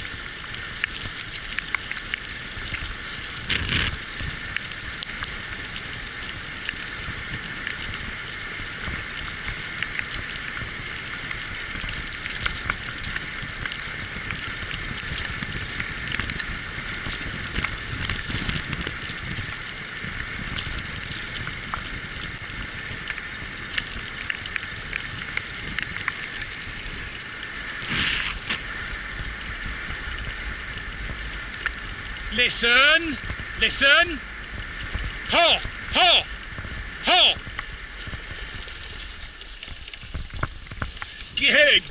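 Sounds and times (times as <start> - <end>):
rig wheels rolling over trail: 0.0 - 41.9.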